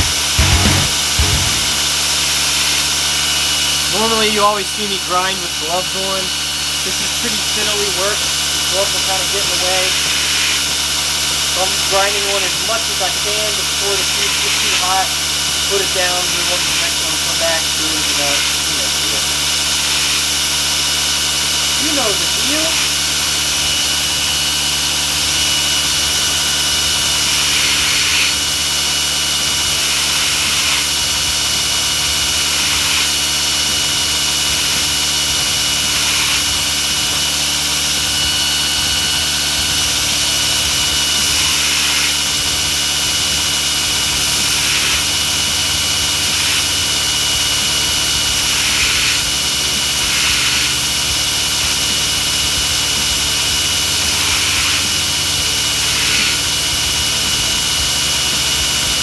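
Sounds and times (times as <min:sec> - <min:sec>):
belt grinder motor running: 0:00.0 - 0:59.0
steel hissing on grinder belt: 0:00.0 - 0:59.0.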